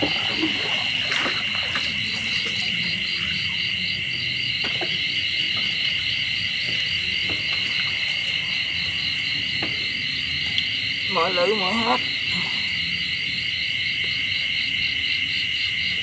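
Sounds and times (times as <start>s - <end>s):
insects buzzing and chirping: 0.0s - 16.0s.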